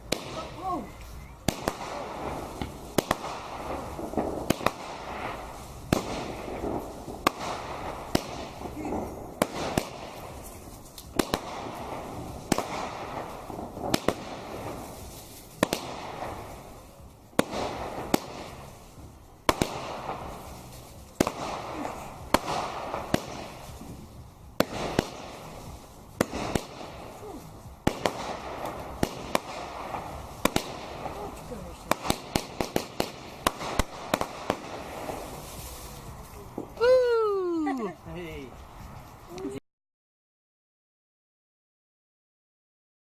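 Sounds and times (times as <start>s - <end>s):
fireworks bangs: 0.0s - 37.6s
fireworks crackling hiss: 0.0s - 39.6s.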